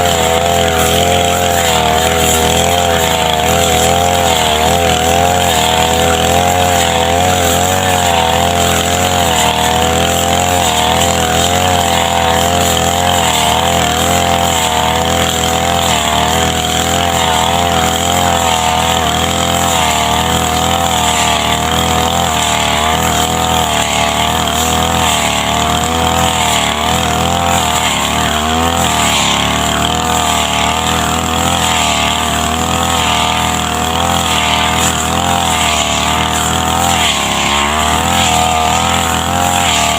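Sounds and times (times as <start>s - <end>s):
brush cutter engine: 0.0s - 39.9s.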